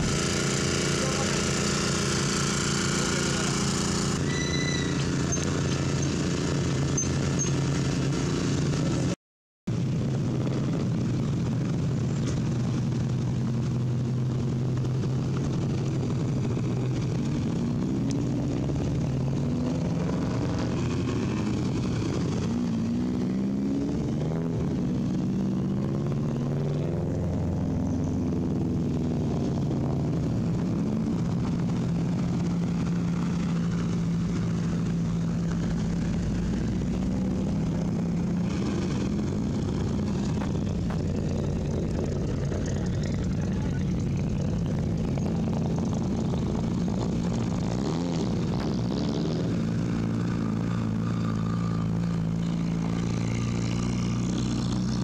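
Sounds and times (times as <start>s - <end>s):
car engine revving: 0.0s - 9.2s, 10.0s - 55.0s.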